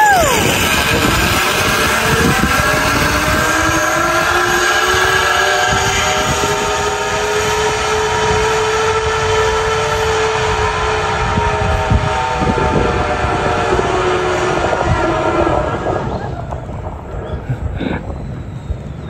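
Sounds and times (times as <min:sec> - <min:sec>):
zipline pulleys whirring on cable: 0:00.0 - 0:19.0.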